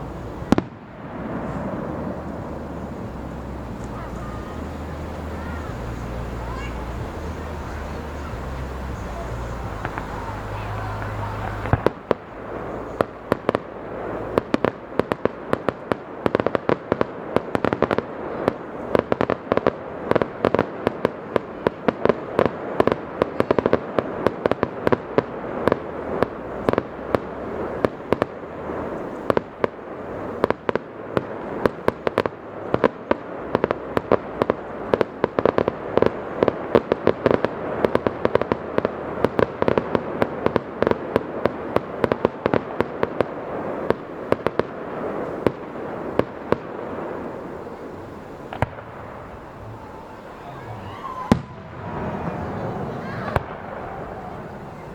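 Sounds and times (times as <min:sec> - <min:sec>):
fireworks bangs and pops: 0:00.0 - 0:54.9.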